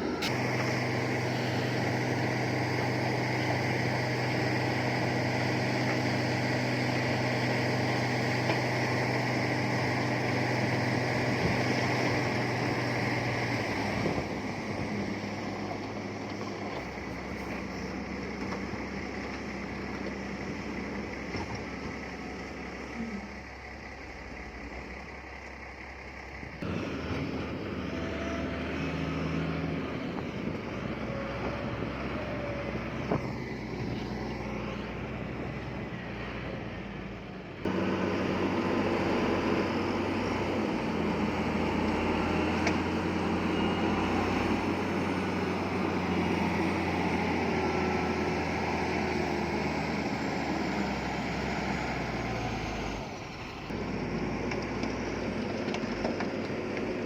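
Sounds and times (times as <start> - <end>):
heavy machinery diesel engines: 0.0 - 57.0
track and load noise: 0.0 - 57.0.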